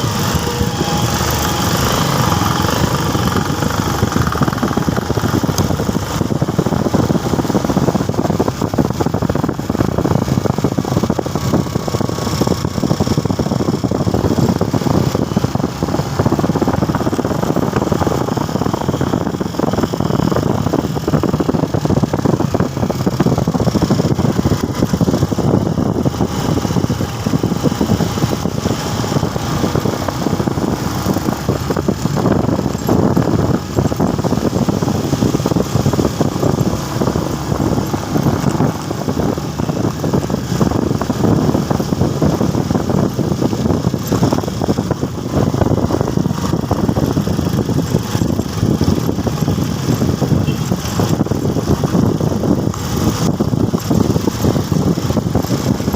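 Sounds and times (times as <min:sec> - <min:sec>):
motorcycle engine and road noise: 0:00.0 - 0:55.9.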